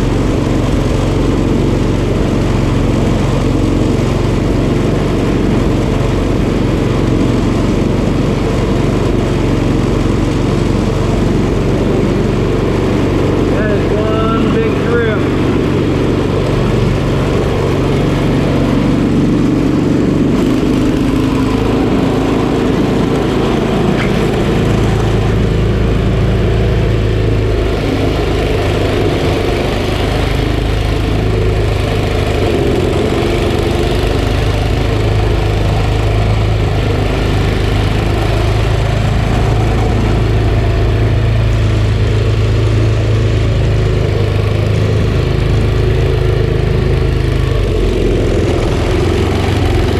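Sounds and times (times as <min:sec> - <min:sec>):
small engine running: 0:00.0 - 0:49.9.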